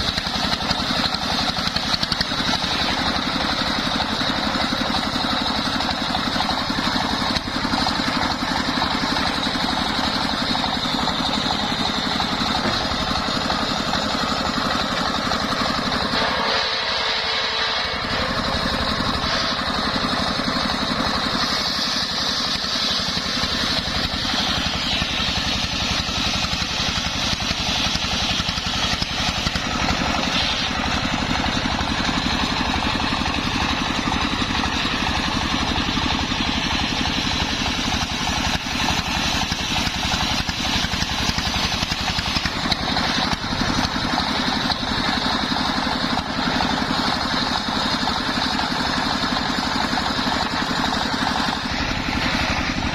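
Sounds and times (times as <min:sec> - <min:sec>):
circular saw engine running: 0:00.0 - 0:52.9.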